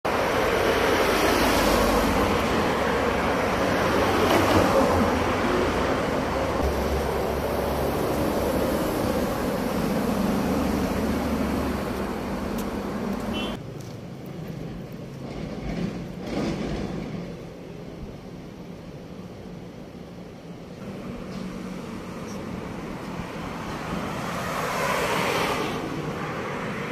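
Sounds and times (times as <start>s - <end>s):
busy road traffic: 0.0s - 26.9s
distant traffic hum: 0.0s - 26.9s.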